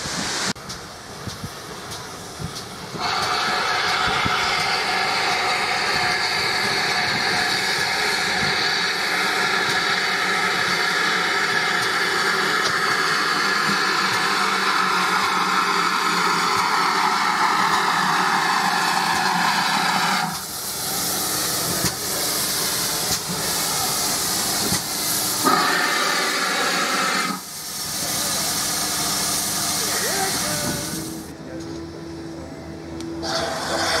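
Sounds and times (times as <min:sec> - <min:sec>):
steam hissing: 0:00.0 - 0:31.3, 0:33.2 - 0:34.0
steam locomotive arriving: 0:00.0 - 0:34.0.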